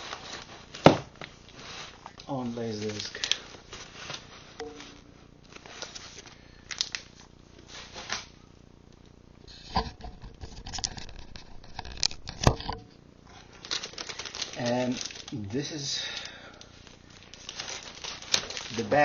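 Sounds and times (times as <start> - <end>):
packaging crinkling and rustling: 0.0 - 8.4, 10.1 - 12.5, 13.3 - 19.0.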